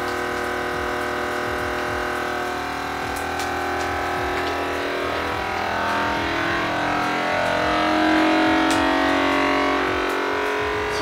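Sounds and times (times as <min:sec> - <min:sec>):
vacuum sealer pump humming: 0:00.0 - 0:11.0.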